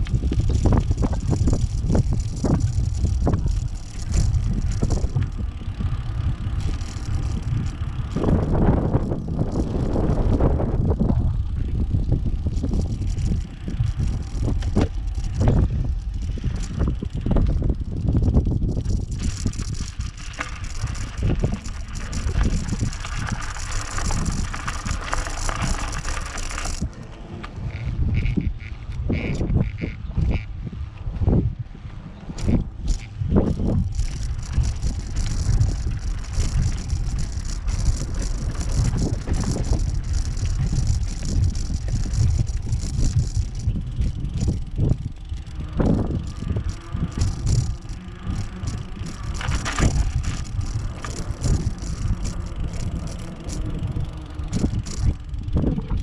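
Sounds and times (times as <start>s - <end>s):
dry rattling buzz: 0.0s - 30.6s, 32.2s - 56.0s
wind rumbling on microphone: 0.0s - 56.0s.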